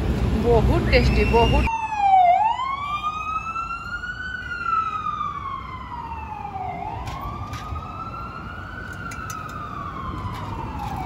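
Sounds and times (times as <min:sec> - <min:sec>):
low city traffic rumble: 0:00.0 - 0:11.0
ambulance siren wailing: 0:00.9 - 0:11.0.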